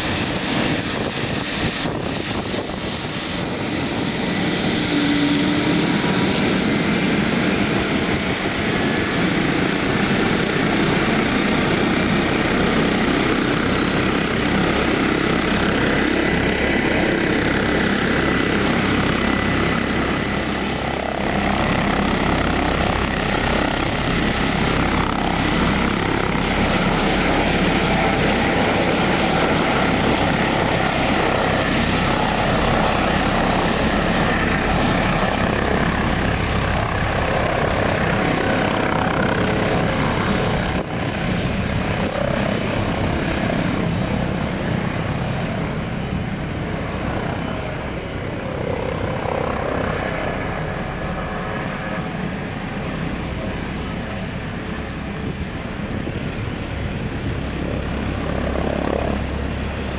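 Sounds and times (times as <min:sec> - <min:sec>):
helicopter taking off: 0:00.0 - 0:59.9.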